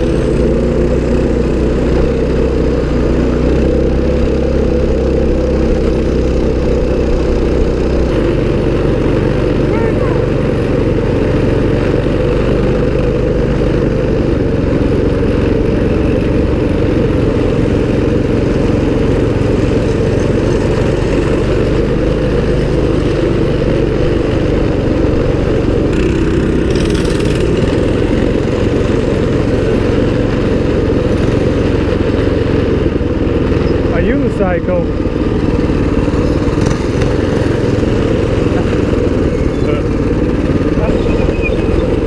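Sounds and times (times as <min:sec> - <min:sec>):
mini bike engine running: 0:00.0 - 0:42.0.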